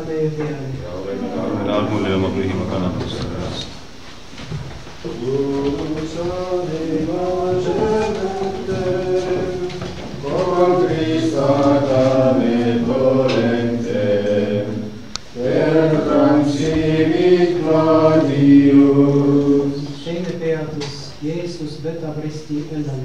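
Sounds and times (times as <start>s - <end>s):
congregation singing a hymn: 0.0s - 4.0s, 5.0s - 20.5s.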